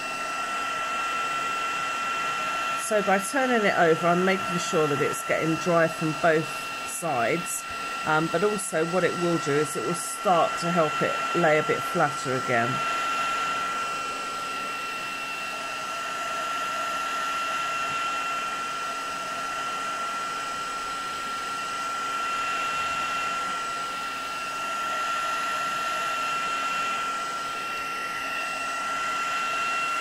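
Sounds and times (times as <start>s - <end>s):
heat gun blowing with whine: 0.0s - 30.0s.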